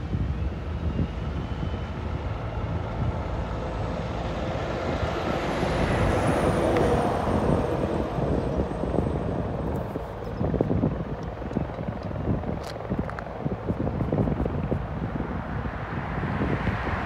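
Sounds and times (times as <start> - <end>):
helicopter rotor chop and turbine: 0.0 - 17.0.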